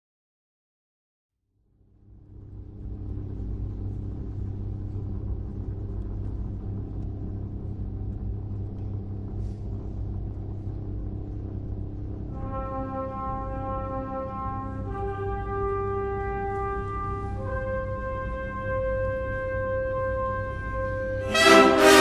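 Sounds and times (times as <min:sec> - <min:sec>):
low cinematic drone rumble: 0:01.6 - 0:22.0.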